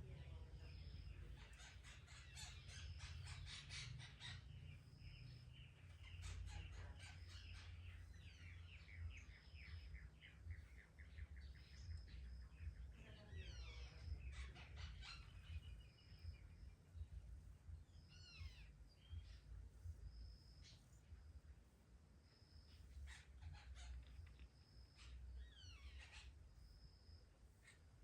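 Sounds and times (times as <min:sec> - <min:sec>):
birds chirping: 0:00.0 - 0:28.0
steady low hum: 0:00.0 - 0:28.0.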